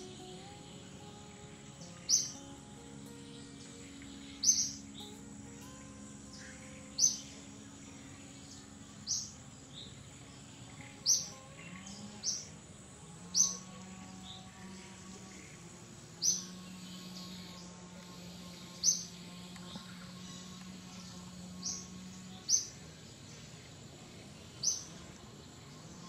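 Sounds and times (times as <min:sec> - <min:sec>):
bird chirping: 0:00.0 - 0:26.0
faint low hum: 0:00.0 - 0:26.0.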